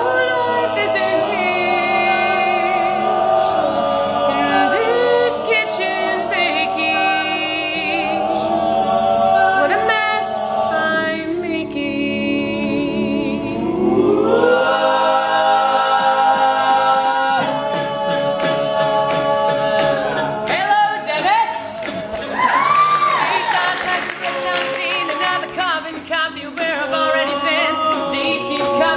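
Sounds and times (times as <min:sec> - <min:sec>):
male a cappella group singing: 0:00.0 - 0:28.9.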